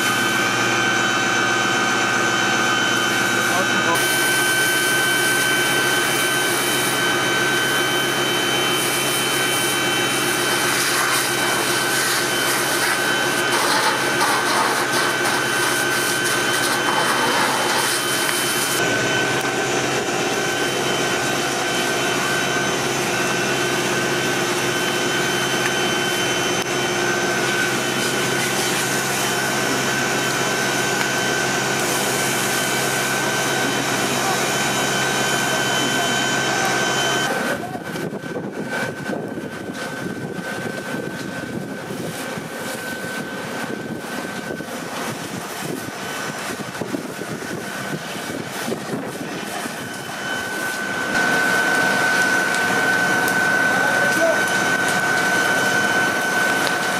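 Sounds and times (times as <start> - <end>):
fire engine pump droning: 0.0 - 56.9
water spraying from hose: 2.6 - 56.9.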